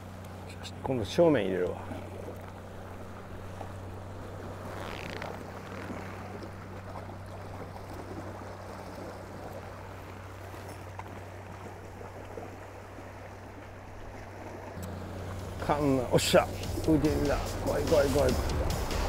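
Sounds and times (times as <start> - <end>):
steady low hum: 0.0 - 19.0
water noise: 0.0 - 19.0.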